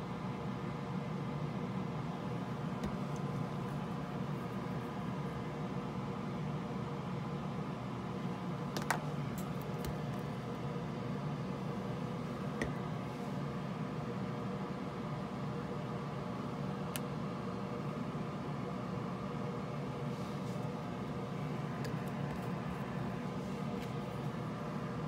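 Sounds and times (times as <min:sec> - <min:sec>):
mechanical fan hum: 0:00.0 - 0:25.0.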